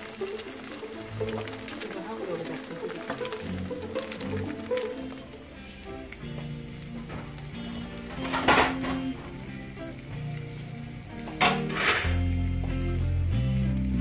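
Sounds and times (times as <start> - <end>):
patties sizzling in a pan: 0.0 - 14.0.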